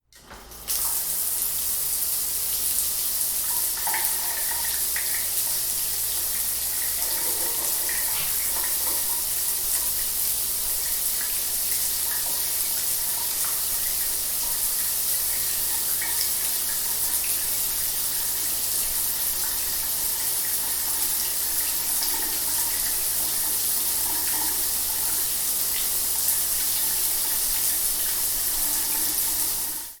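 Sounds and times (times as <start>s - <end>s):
shower running: 0.1s - 30.0s.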